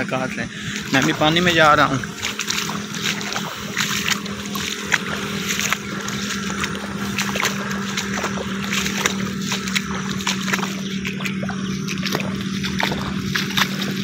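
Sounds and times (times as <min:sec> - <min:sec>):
footsteps wading through water: 0:00.0 - 0:14.0
steady low hum: 0:00.0 - 0:14.0.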